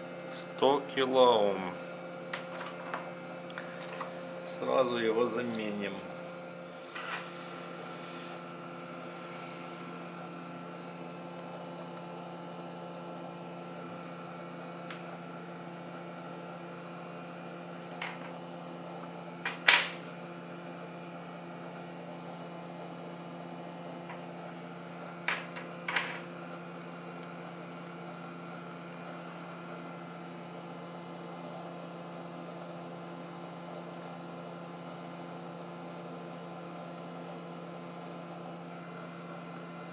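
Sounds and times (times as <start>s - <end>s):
electric equipment humming: 0.0s - 39.9s.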